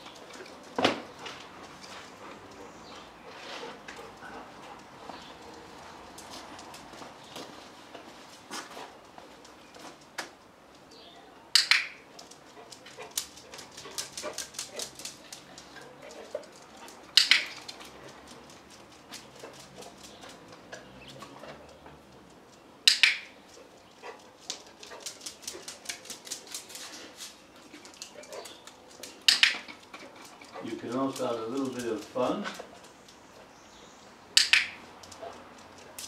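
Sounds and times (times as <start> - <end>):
dog's feet pattering on pavers: 0.0 - 11.1, 11.8 - 36.0.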